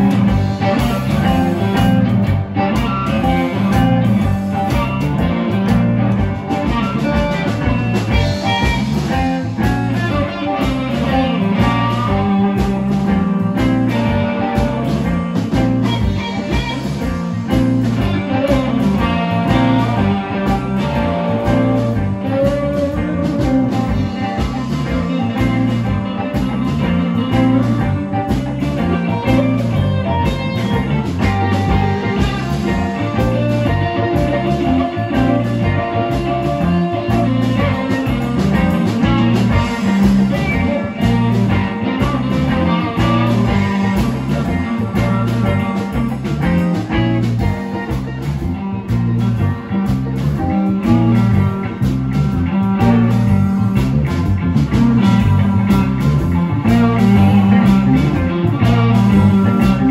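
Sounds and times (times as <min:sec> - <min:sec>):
electric blues band playing: 0:00.0 - 0:59.9
electric guitar: 0:00.0 - 0:59.9.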